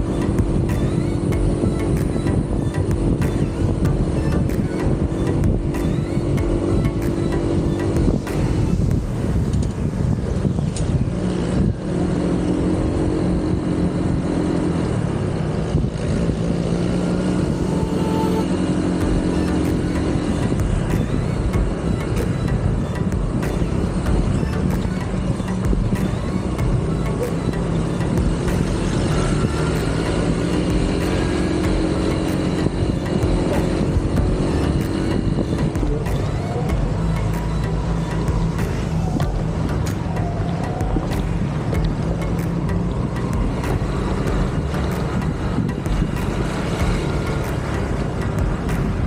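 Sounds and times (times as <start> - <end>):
motorcycle engine running: 0.0 - 49.0
road and wind noise: 0.0 - 49.0.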